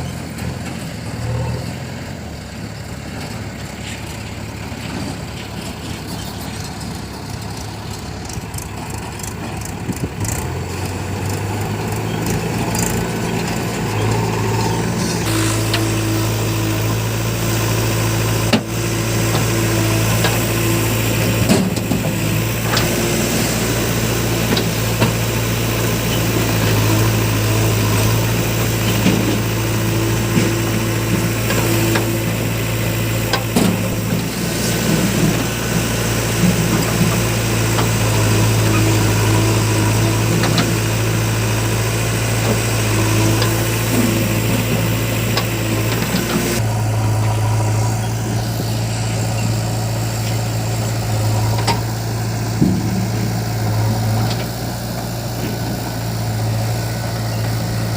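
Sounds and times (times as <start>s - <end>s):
diesel engines running: 0.0s - 57.9s.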